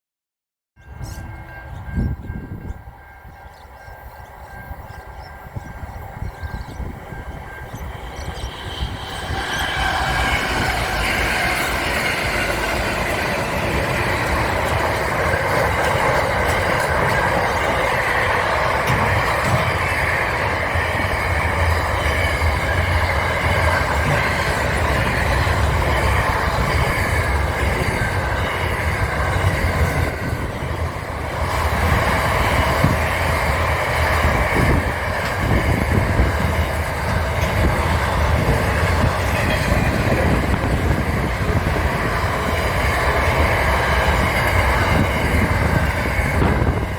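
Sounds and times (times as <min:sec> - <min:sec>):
train rumbling on rails: 0:00.8 - 0:46.9.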